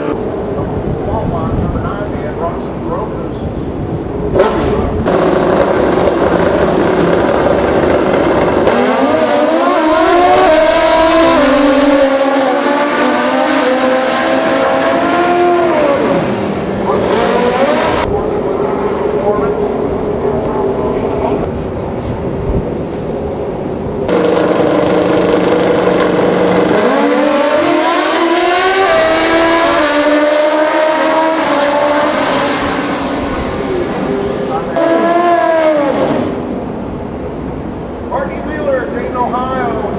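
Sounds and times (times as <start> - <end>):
motorcycle engine accelerating: 0.0 - 37.1.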